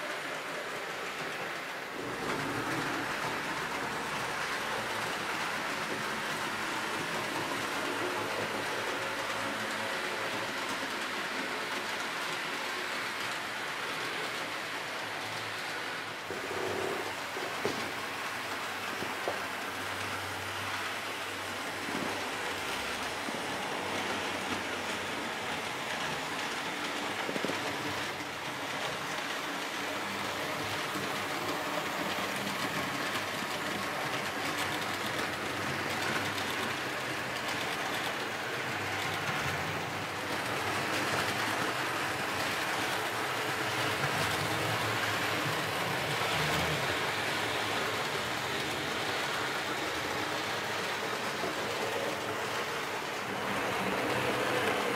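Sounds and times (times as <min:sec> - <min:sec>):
model train wheels clattering on rails: 0:00.0 - 0:54.9.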